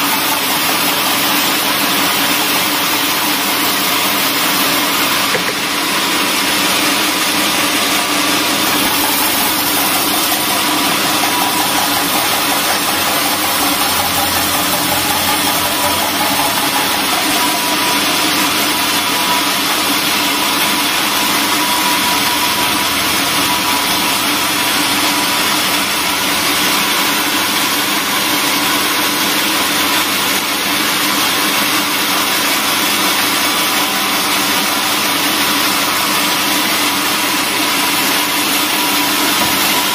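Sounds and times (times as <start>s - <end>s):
band sawmill sawing timber: 0.0s - 39.9s.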